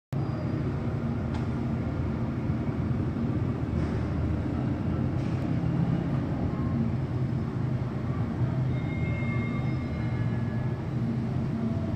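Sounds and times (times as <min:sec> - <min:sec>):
distant city traffic rumble: 0:00.1 - 0:11.9.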